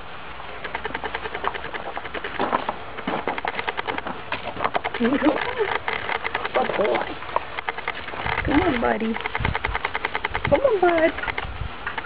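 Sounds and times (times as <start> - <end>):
dog panting: 0.6 - 12.0.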